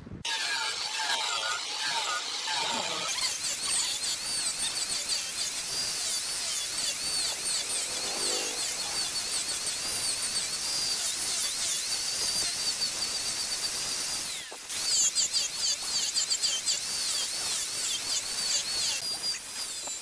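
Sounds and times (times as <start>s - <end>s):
angle grinder grinding wood: 0.3s - 20.0s.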